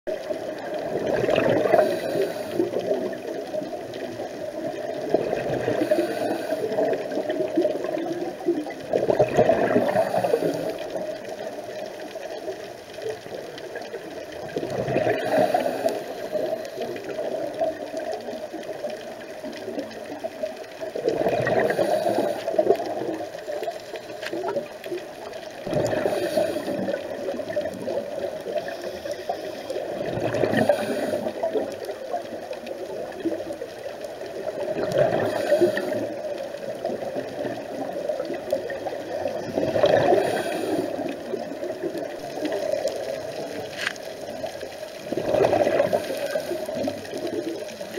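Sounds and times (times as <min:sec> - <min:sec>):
scuba regulator bubbling: 0:00.1 - 0:47.9
watery hiss: 0:00.3 - 0:12.5, 0:15.0 - 0:18.4, 0:19.5 - 0:24.6, 0:25.2 - 0:31.8, 0:34.3 - 0:47.9.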